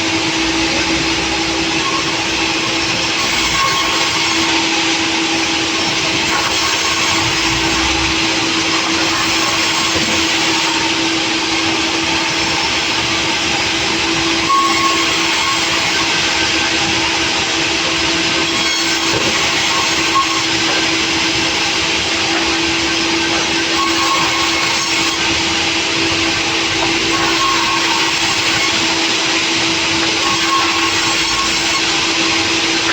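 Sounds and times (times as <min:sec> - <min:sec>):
sawmill saw running: 0:00.0 - 0:32.9.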